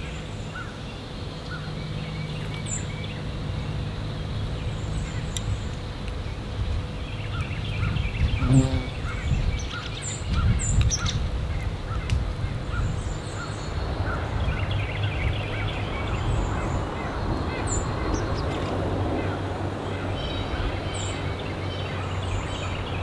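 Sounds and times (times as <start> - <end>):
continuous low rumble: 0.0 - 23.0.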